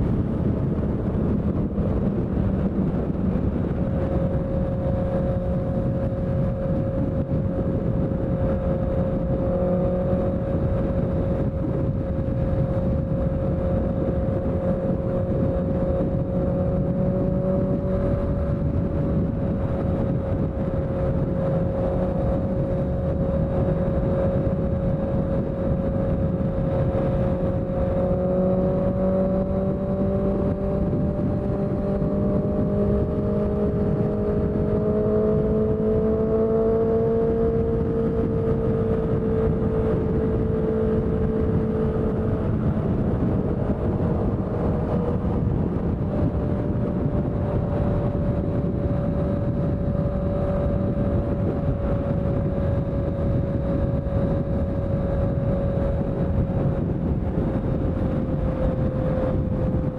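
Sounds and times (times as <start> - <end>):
motorcycle engine at cruising revs: 0.0 - 59.9.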